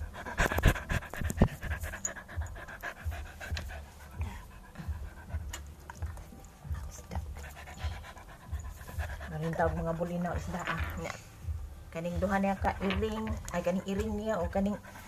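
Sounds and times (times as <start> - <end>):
rhythmic panting breaths: 0.0 - 15.0.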